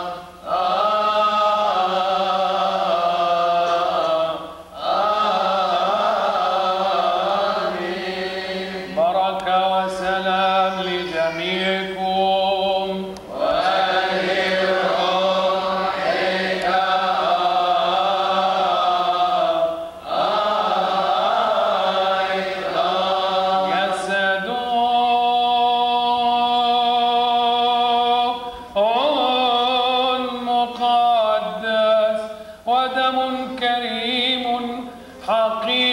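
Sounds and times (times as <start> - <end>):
unaccompanied voices chanting: 0.0 - 32.4.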